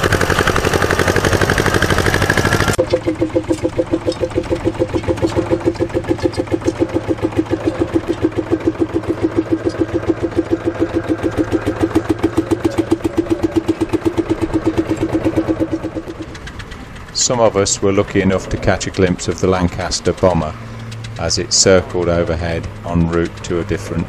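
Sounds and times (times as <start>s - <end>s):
tractor engine slow chugging: 0.0s - 24.0s.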